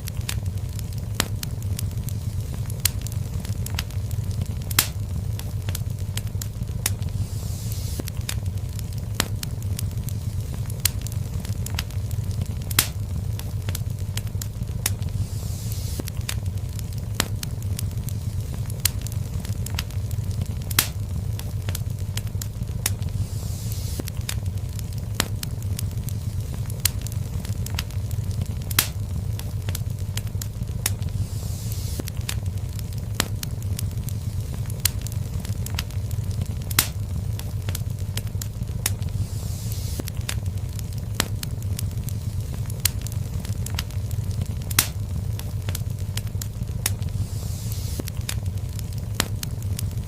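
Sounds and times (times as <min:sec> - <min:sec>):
crackles and pops of burning logs: 0:00.0 - 0:50.0
low rumble of flame: 0:00.0 - 0:50.0.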